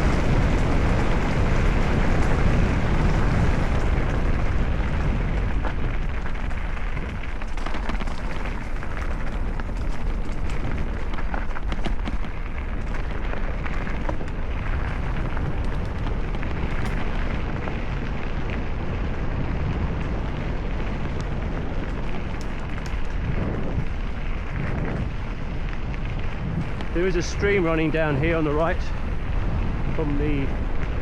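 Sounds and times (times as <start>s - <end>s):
bike tyres rumbling on trail: 0.0s - 31.0s
stones and gravel clicking: 0.0s - 31.0s
wind on microphone: 0.0s - 31.0s.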